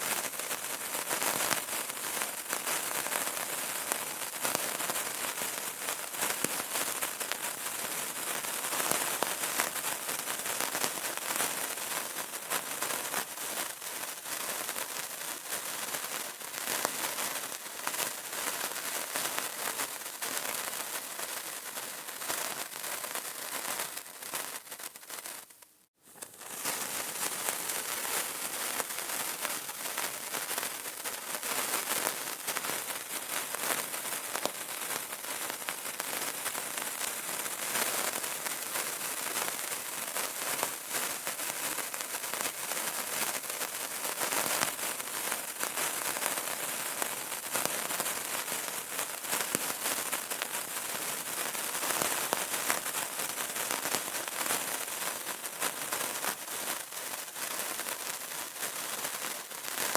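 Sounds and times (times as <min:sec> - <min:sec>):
candle crackling: 0:00.4 - 0:54.1, 0:56.2 - 0:59.9.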